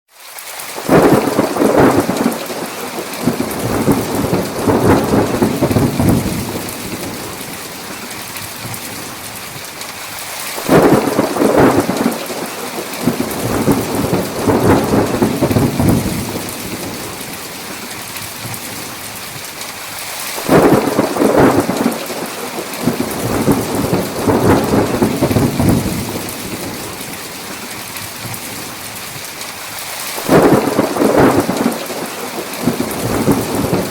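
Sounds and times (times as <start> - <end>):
heavy rain hissing: 0.4 - 33.9
thunder rumbling: 0.8 - 9.3, 10.6 - 19.0, 20.4 - 28.7, 30.2 - 33.9.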